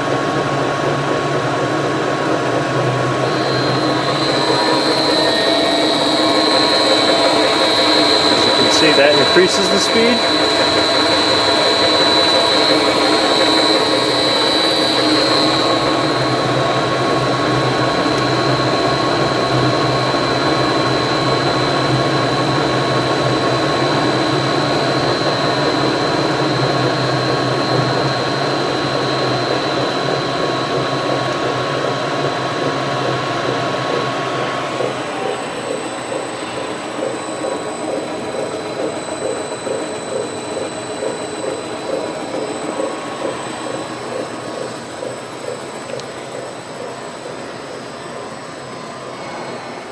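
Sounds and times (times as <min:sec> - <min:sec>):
mixer motor running: 0:00.0 - 0:49.2
high steady whine: 0:00.0 - 0:49.9.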